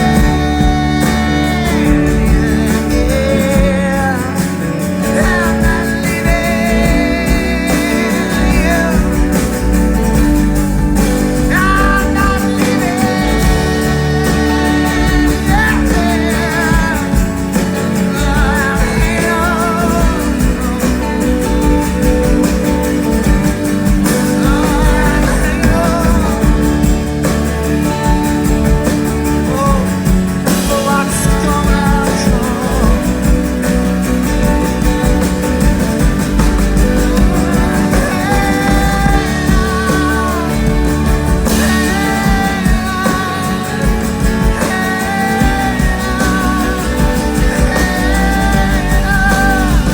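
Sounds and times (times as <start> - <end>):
live band music: 0.0 - 49.9.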